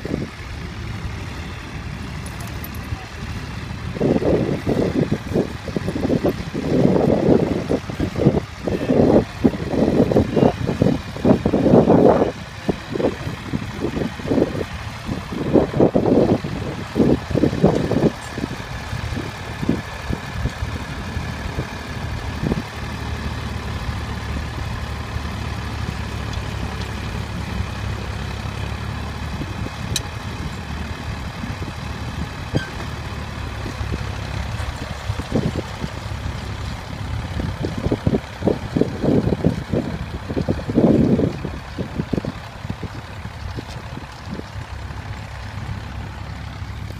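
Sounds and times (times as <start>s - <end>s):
tractor engine under load: 0.0s - 46.9s
wind buffeting microphone: 0.0s - 46.9s.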